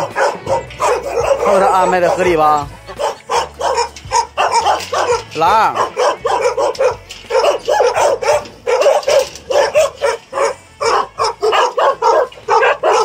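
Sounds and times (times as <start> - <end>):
dogs barking fast: 0.0 - 13.0.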